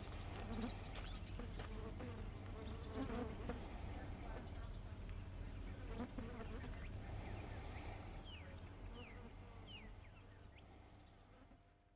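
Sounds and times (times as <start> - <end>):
bird chirping: 0.0 - 3.6, 4.3 - 11.3
insects buzzing: 0.0 - 11.9.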